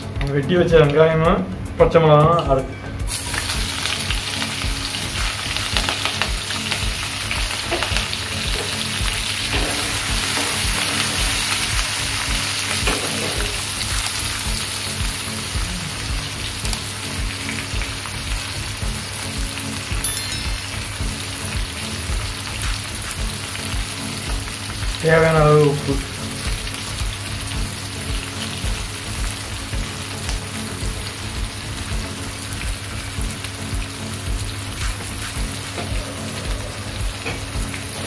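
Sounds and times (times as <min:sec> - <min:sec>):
onions sizzling in hot oil: 0:03.0 - 0:38.0.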